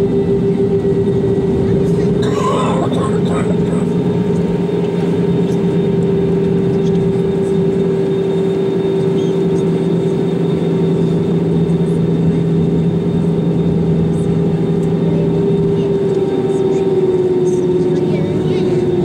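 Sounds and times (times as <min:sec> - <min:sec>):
airplane cabin engine drone: 0:00.0 - 0:19.0
held hum tones: 0:00.0 - 0:19.0.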